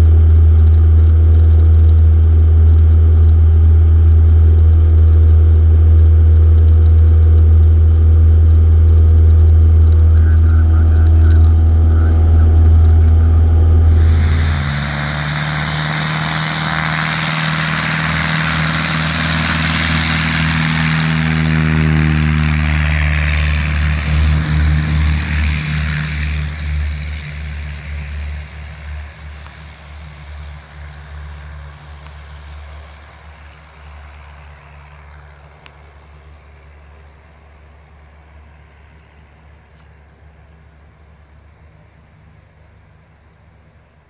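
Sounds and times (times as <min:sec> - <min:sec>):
propeller plane engine at full power: 0:00.0 - 0:44.0.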